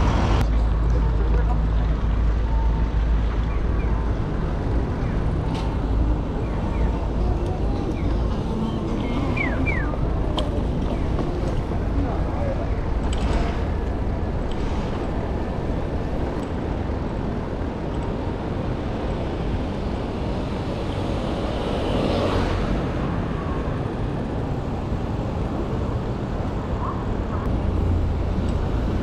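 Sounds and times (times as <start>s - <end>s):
city street noise: 0.0s - 29.0s.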